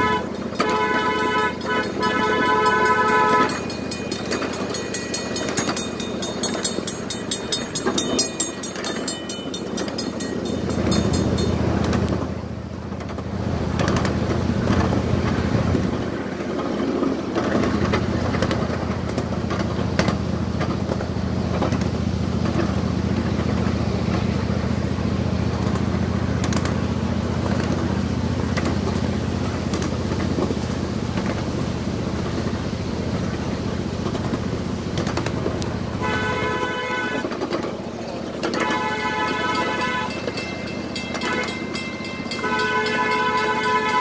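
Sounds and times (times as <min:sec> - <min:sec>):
train engine drone: 0:00.0 - 0:44.0.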